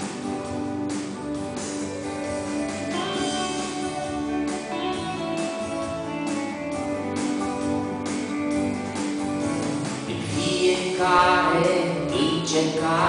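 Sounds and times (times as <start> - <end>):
guitar strumming: 0.0 - 12.9
keyboard chords: 0.0 - 13.0.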